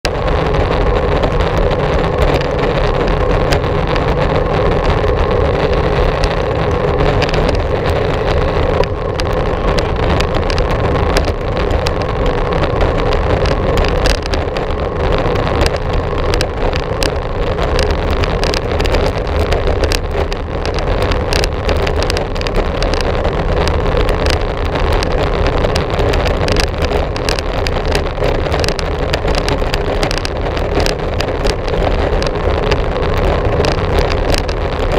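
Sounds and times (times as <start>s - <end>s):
wind rushing over microphone: 0.0s - 34.9s
small clicks and rattles: 0.1s - 34.9s.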